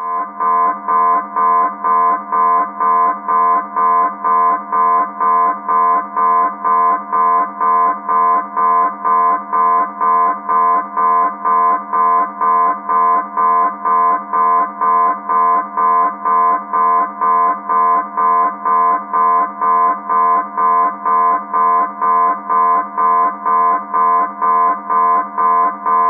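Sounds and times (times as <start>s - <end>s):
pulsing alarm tone: 0.0s - 26.0s.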